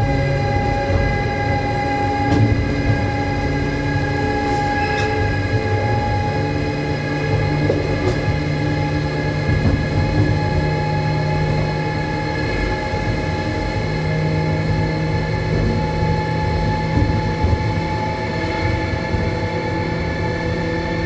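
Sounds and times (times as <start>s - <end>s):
train running gear rumble: 0.0s - 21.0s.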